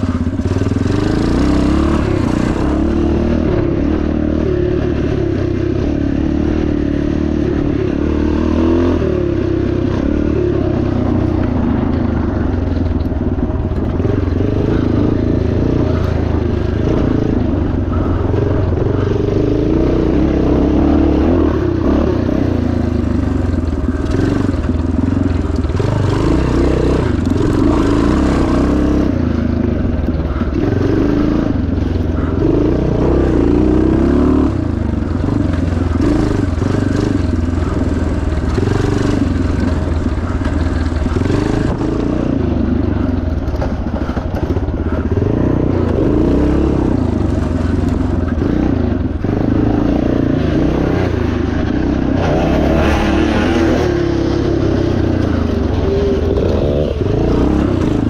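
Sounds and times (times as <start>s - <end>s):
motorcycle engine running under load: 0.0s - 58.0s.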